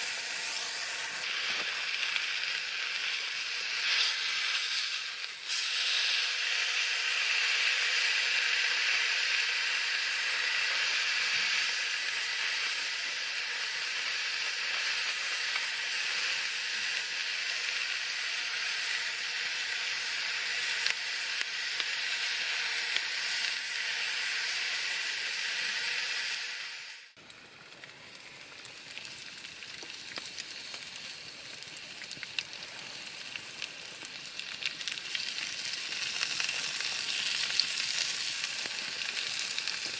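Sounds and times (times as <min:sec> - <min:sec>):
food sizzling in frying: 0:00.0 - 0:39.9.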